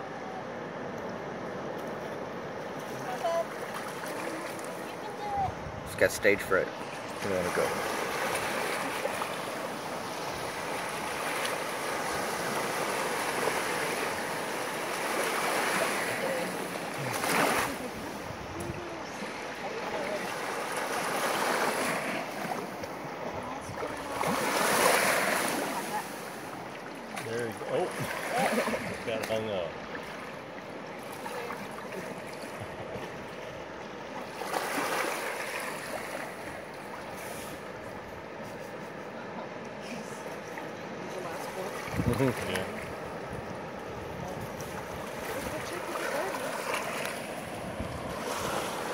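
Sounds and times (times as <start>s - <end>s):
surf washing on sand: 0.0s - 48.9s.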